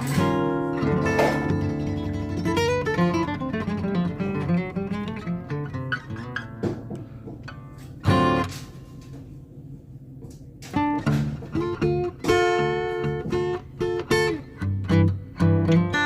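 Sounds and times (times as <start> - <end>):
acoustic guitar playing: 0.0 - 9.5, 10.6 - 16.0.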